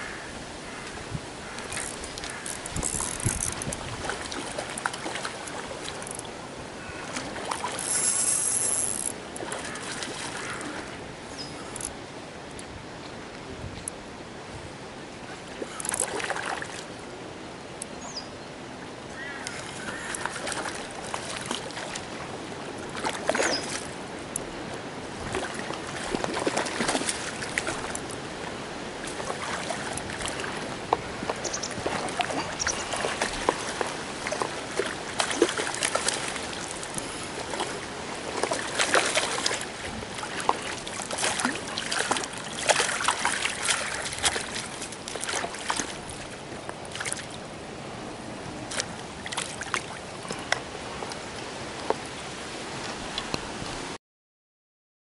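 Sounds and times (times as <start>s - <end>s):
water splashing and sloshing: 0.0s - 17.8s, 18.7s - 54.0s.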